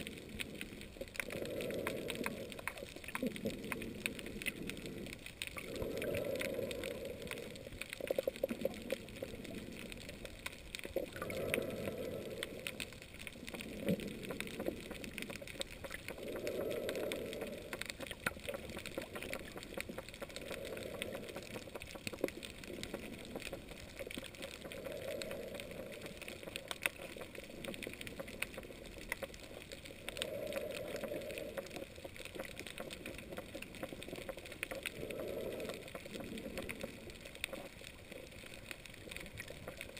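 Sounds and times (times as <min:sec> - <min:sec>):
sharp underwater clicks: 0:00.0 - 0:39.9
underwater crackle: 0:00.0 - 0:39.9.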